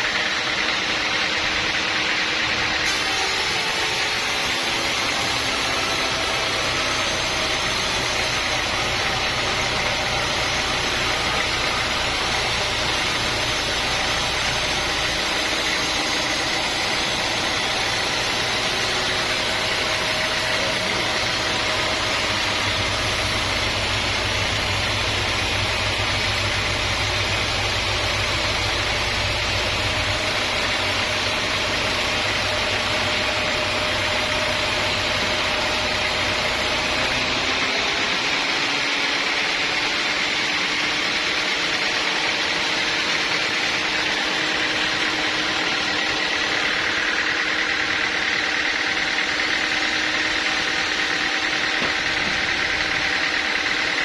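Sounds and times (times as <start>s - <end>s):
deep machinery rumble: 0.0s - 54.0s
sawmill machinery hum and hiss: 0.0s - 54.0s.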